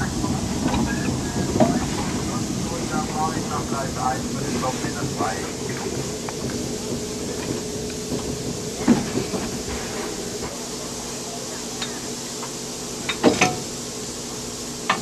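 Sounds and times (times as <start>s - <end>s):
steam locomotive humming: 0.0s - 15.0s.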